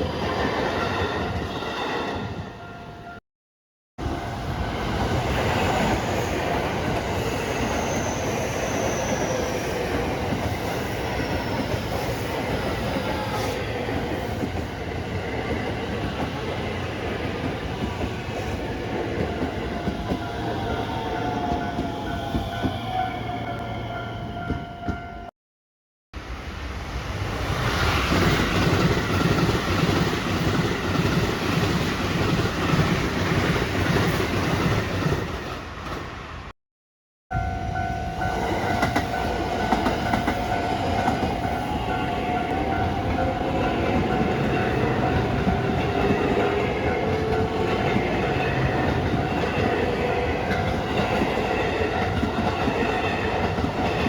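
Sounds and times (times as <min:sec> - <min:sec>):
train wheels rumbling on rail: 0:04.0 - 0:23.0, 0:26.8 - 0:36.5, 0:37.3 - 0:54.0.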